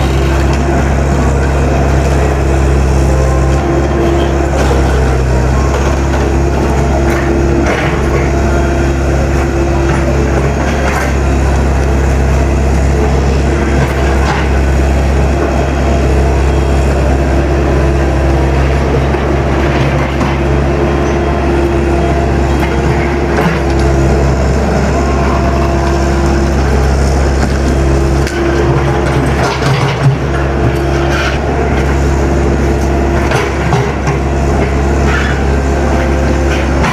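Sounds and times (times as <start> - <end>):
diesel engine under load: 0.0 - 36.9.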